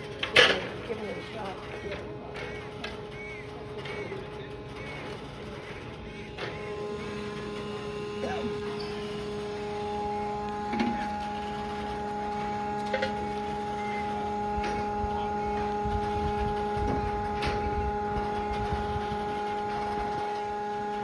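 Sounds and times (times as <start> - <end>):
steady motor hum: 0.0 - 21.0.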